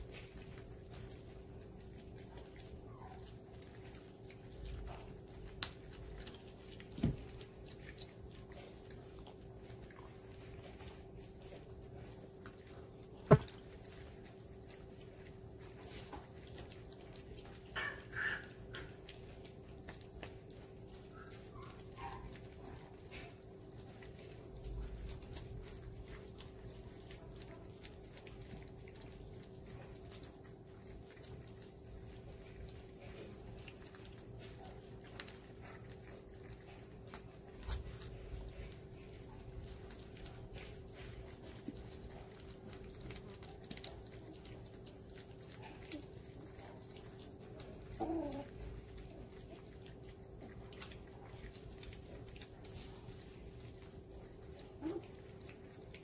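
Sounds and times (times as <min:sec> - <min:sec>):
puppies lapping and smacking: 0:00.0 - 0:56.0.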